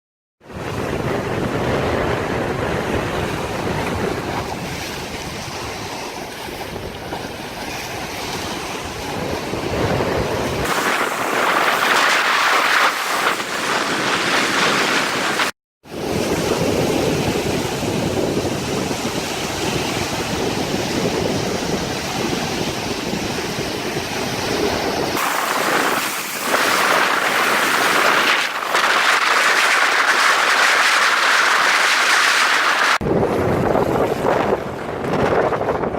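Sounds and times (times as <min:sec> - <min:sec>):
wind buffeting microphone: 0:00.4 - 0:35.9
rushing water: 0:02.9 - 0:15.5, 0:16.1 - 0:33.0.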